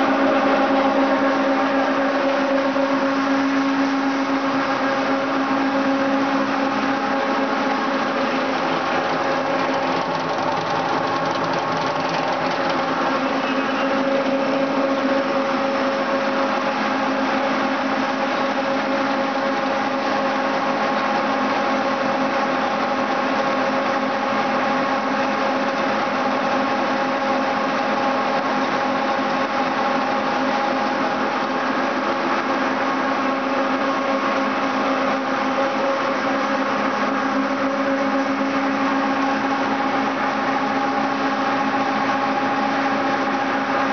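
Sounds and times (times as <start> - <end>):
industrial machine drone: 0.0 - 43.9.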